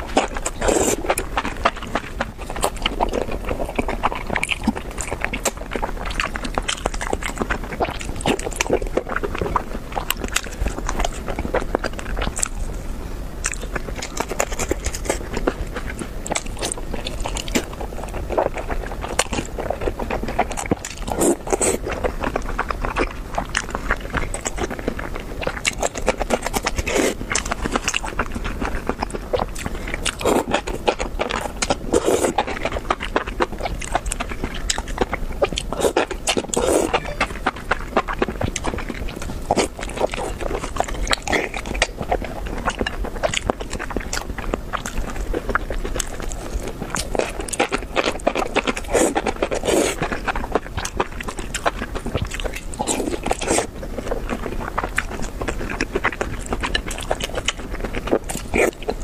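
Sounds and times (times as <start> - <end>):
crackly mouth clicks: 0.0 - 12.8, 13.4 - 59.0
person chewing and biting food: 0.0 - 59.0.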